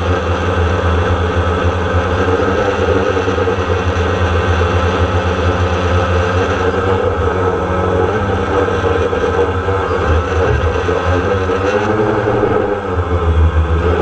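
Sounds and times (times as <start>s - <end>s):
quadcopter propellers droning: 0.0s - 14.0s.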